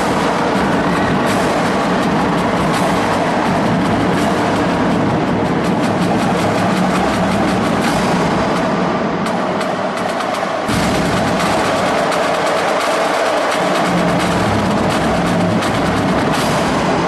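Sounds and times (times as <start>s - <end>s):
marching drumline playing: 0.0s - 17.0s.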